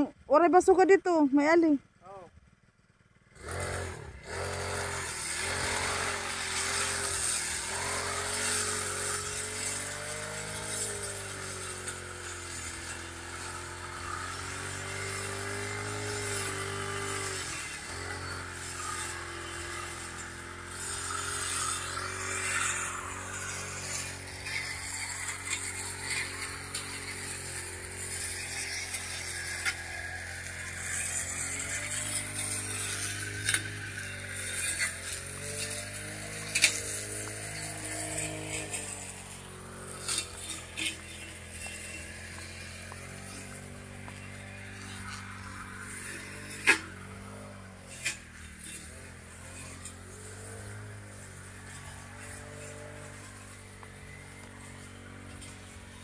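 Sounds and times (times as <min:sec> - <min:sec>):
brush cutter engine running: 0:00.0 - 0:56.0.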